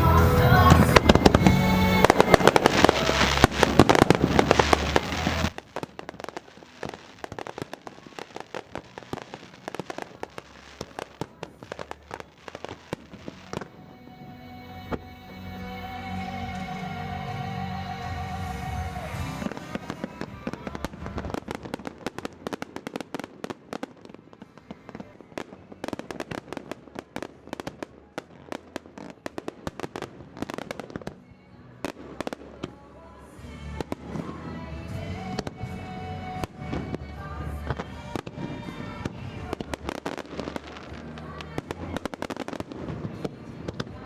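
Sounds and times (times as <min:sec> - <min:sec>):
fireworks crackling and banging: 0:00.0 - 0:44.0
music playing: 0:00.0 - 0:44.0.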